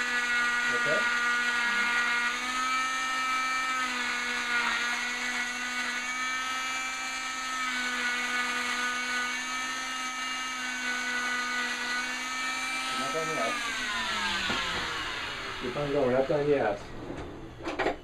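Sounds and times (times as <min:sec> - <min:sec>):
cast saw whining: 0:00.0 - 0:18.0.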